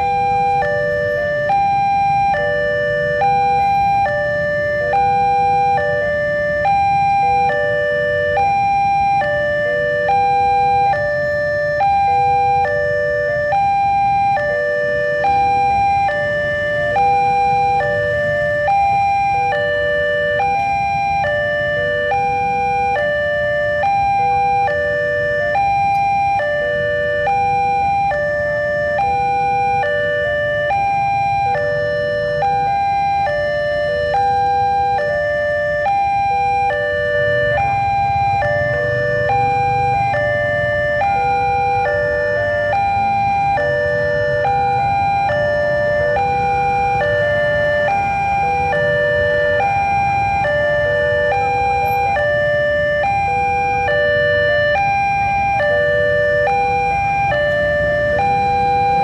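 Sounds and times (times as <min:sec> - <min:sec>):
idling engines rumbling: 0:00.0 - 0:59.0
level crossing electronic alarm: 0:00.0 - 0:59.0.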